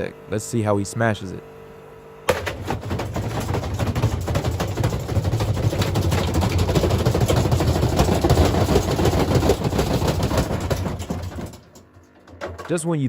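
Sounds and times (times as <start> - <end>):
bricks banging in washing machine: 2.3 - 12.8
washing machine drum droning: 2.3 - 12.8.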